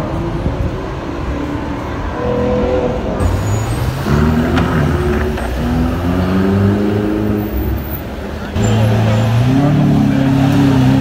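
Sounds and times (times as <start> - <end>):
sports car engines revving: 0.0 - 11.0.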